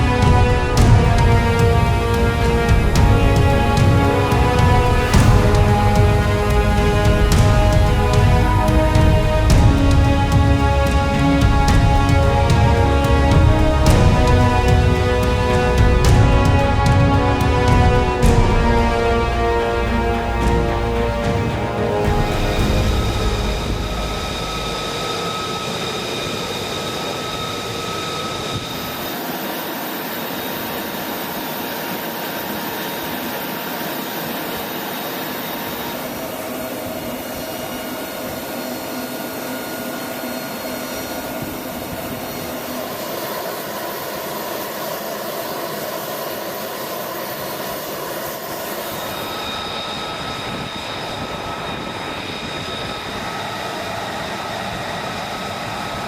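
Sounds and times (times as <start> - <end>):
helicopter turbine whine: 0.0 - 56.0.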